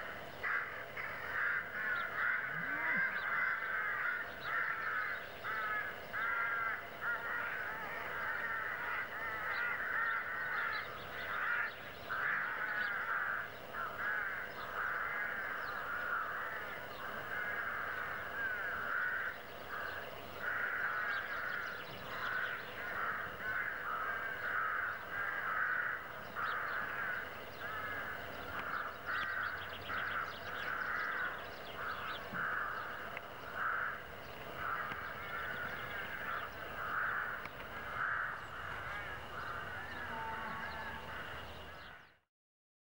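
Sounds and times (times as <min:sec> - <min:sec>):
crows cawing: 0:00.0 - 0:42.2.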